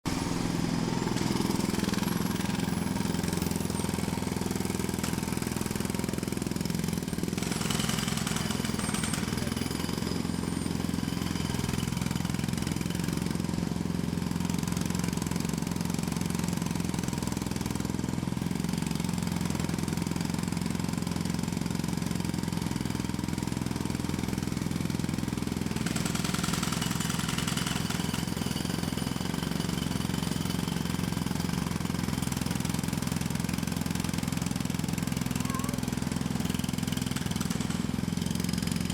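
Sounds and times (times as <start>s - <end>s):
jackhammer hammering: 0.0s - 38.9s.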